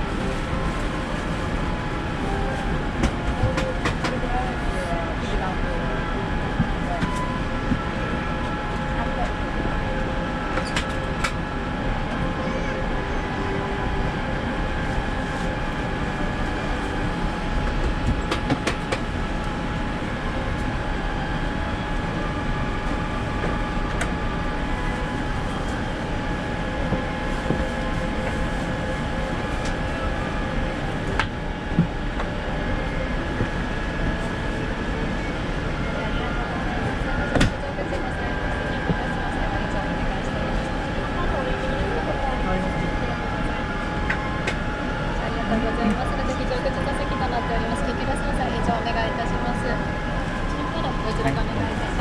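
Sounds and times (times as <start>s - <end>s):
airplane cabin air-conditioning hum: 0.0s - 52.0s.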